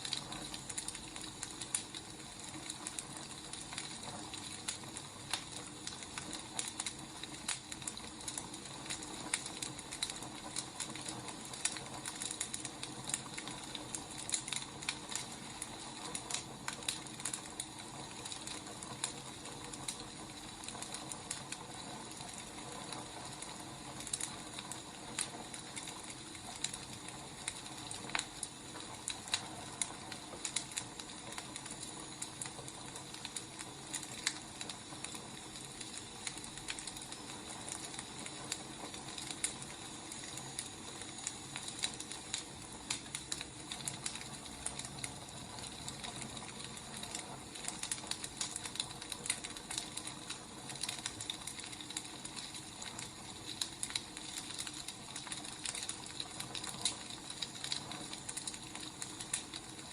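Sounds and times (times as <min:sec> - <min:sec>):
burning firewood crackling: 0:00.0 - 0:59.9.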